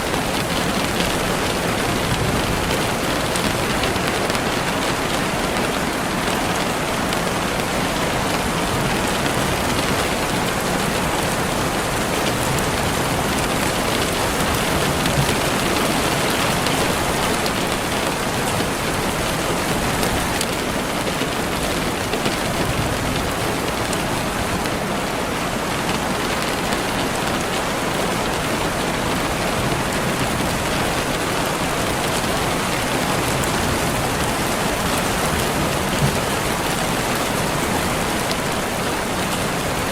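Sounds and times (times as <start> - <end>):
rain pattering on surface: 0.0 - 39.9.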